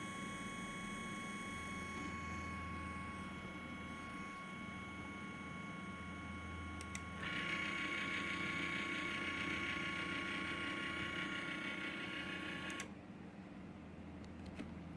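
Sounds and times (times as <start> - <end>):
small electric motors whining: 0.0 - 12.9.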